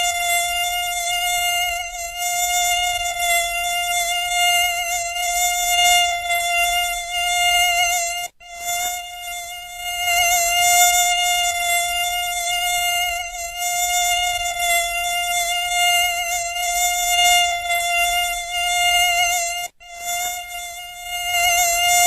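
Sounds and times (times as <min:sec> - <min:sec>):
mosquito whine: 0:00.0 - 0:22.0.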